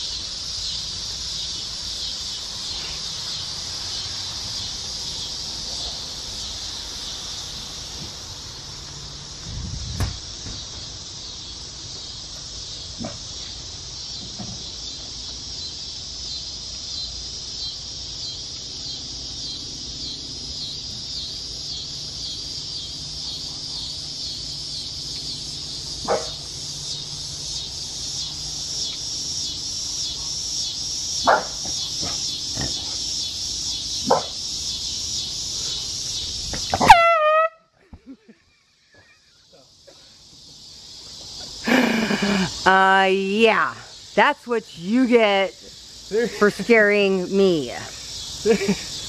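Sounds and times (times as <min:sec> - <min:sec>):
insects chorus: 0:00.0 - 0:49.0.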